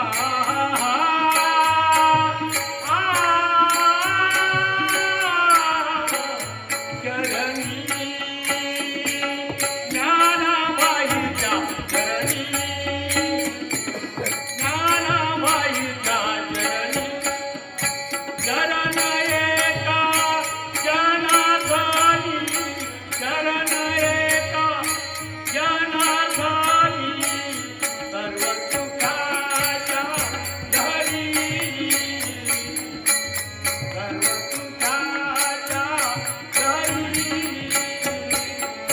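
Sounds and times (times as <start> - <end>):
devotional singing: 0.0 - 33.3.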